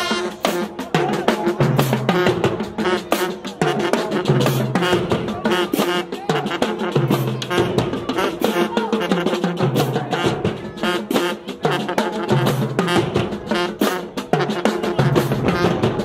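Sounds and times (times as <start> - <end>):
drum line: 0.0 - 16.0
marching band playing: 0.0 - 16.0.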